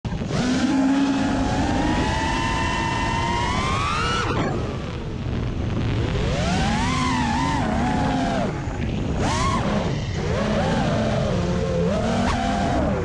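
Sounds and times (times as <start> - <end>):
drone motors and propellers whining: 0.1 - 13.0
wind rush: 0.1 - 13.0.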